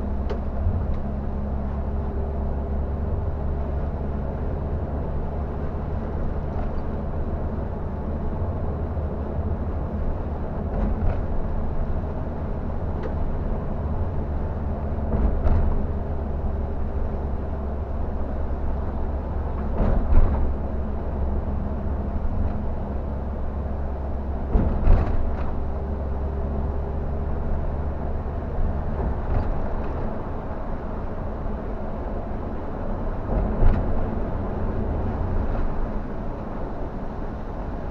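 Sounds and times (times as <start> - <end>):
bus diesel engine droning: 0.0 - 37.9.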